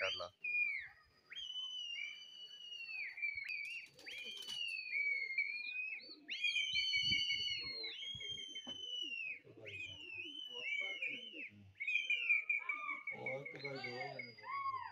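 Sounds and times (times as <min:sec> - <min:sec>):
people whistling: 0:00.0 - 0:14.9.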